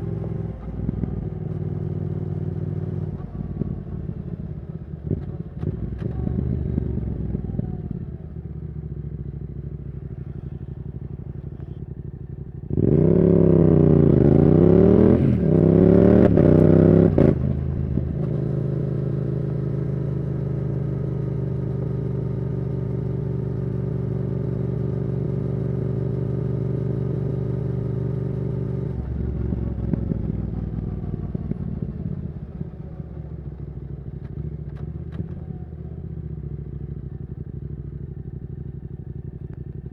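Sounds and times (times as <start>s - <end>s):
motorcycle engine revving: 0.0s - 33.4s.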